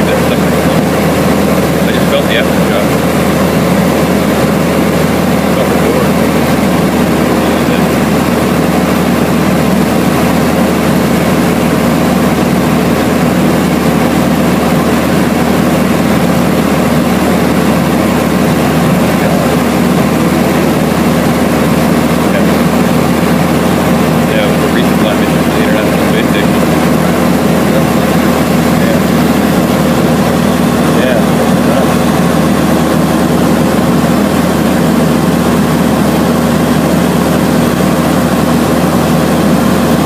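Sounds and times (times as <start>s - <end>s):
propeller aircraft engine drone: 0.0s - 40.0s.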